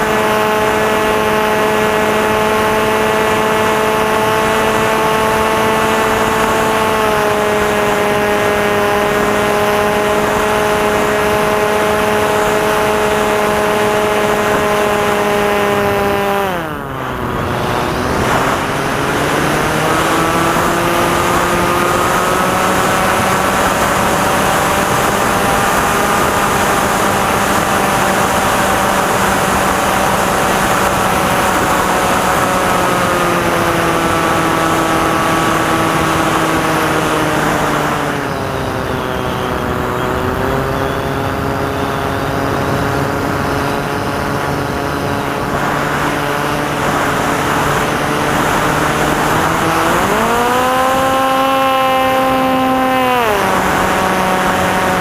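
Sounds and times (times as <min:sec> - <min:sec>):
electric motor and propeller whining: 0:00.0 - 0:55.0
wind rush: 0:10.1 - 0:55.0.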